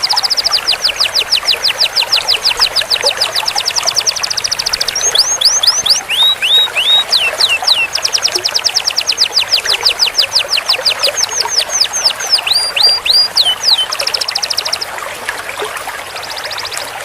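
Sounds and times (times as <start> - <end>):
canary singing: 0.0 - 14.9.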